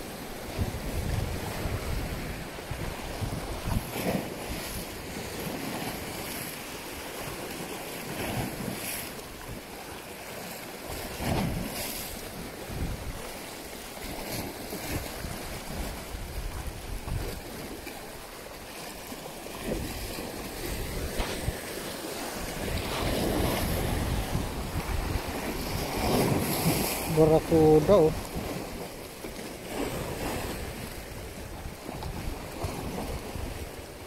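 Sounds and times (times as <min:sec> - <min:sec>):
wind buffeting microphone: 0:00.0 - 0:07.2, 0:11.0 - 0:18.4, 0:19.6 - 0:28.9, 0:29.7 - 0:34.0
sea waves splashing on rocks: 0:00.0 - 0:34.0.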